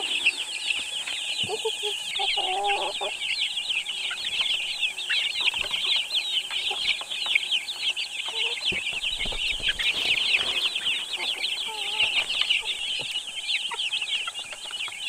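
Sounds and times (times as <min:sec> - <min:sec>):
chickens clucking: 0:00.0 - 0:15.0
chickens peeping: 0:00.0 - 0:15.0.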